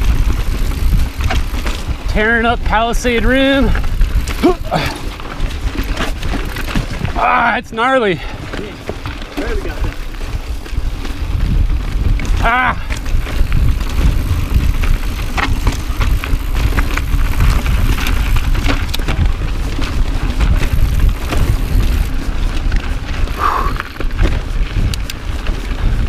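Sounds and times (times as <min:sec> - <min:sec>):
bike clattering over rock: 0:00.0 - 0:02.2, 0:03.2 - 0:07.4, 0:08.2 - 0:26.0
wind rumble on microphone: 0:00.0 - 0:26.0.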